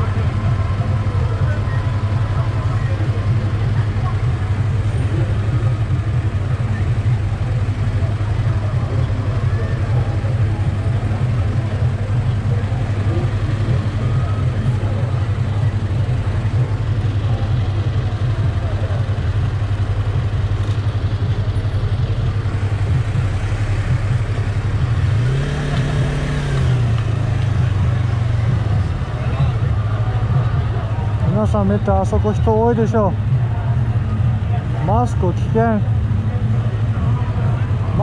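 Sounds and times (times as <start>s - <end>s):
motorcycle engine idling and revving: 0.0s - 38.0s
street traffic: 0.0s - 38.0s.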